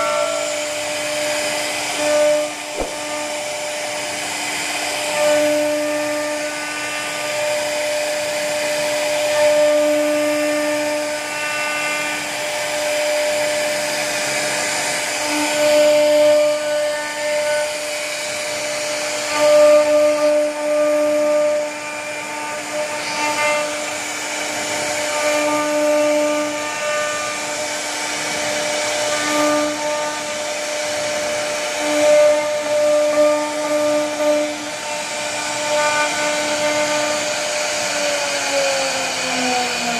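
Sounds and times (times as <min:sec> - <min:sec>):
bit cutting wood: 0:00.0 - 0:39.9
router spindle whining: 0:00.0 - 0:39.9.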